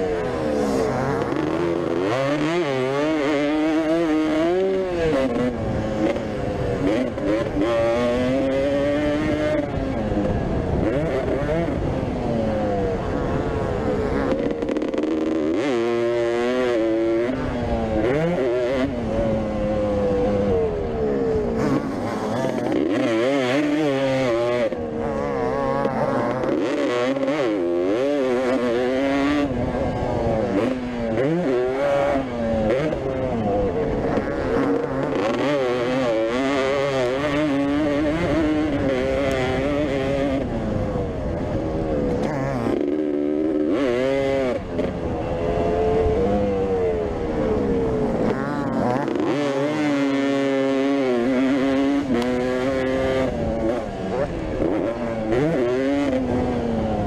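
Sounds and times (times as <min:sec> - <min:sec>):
motocross motorcycles racing: 0:00.0 - 0:57.0.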